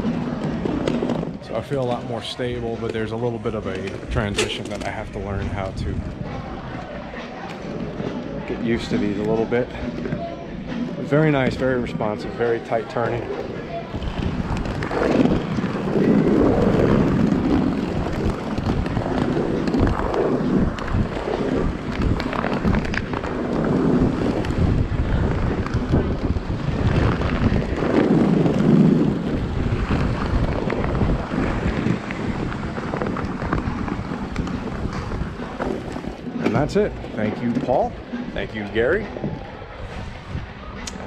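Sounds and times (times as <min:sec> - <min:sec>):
roller skates rolling on wood: 0:00.0 - 0:41.0
wind buffeting microphone: 0:00.0 - 0:41.0.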